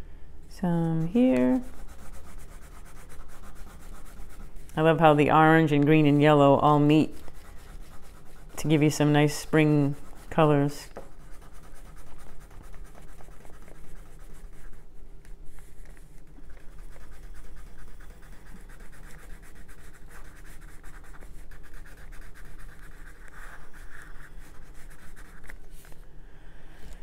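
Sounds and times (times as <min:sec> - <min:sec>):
crayon scribbling on paper: 0:00.8 - 0:05.3, 0:05.9 - 0:14.8, 0:15.6 - 0:25.6.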